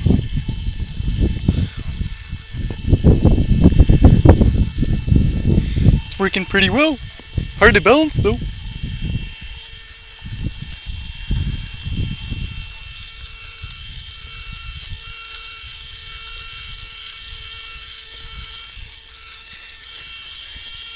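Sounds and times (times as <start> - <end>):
electric whir: 0.0 - 20.9.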